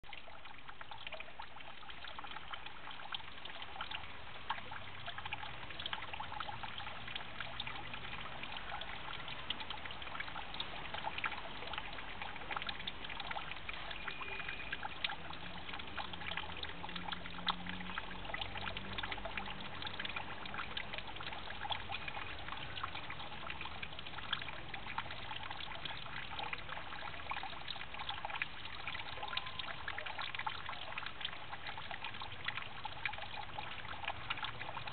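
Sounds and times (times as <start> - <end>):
water dripping: 0.0 - 34.9
water trickling into pond: 0.0 - 34.9.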